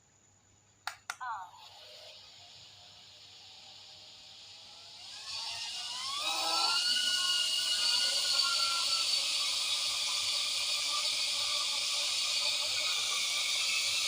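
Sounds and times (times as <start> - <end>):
drone motors whining: 1.6 - 14.0.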